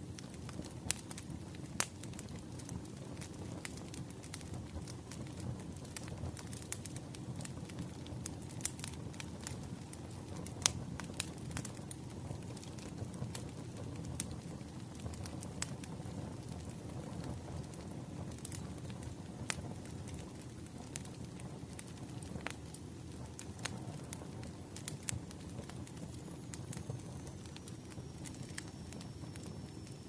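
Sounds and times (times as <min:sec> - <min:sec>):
burning logs rumbling: 0:00.0 - 0:30.0
fire pops and snaps: 0:00.0 - 0:30.0.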